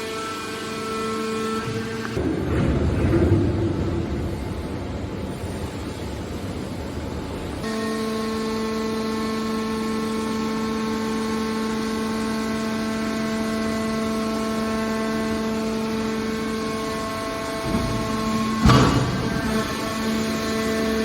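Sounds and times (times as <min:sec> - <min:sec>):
hydraulic power unit whine: 0:00.0 - 0:21.0
rushing machine noise: 0:00.0 - 0:21.0.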